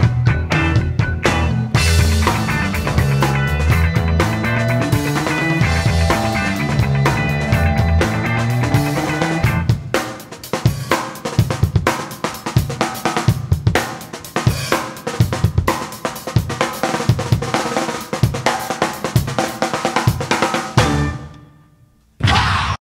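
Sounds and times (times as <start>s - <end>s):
drum-heavy theme music: 0.0s - 21.6s.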